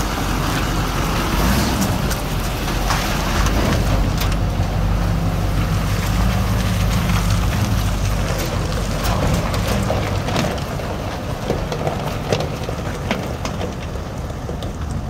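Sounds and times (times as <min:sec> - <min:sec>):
diesel truck engine running: 0:00.0 - 0:15.0
tyres crunching on gravel: 0:00.0 - 0:15.0.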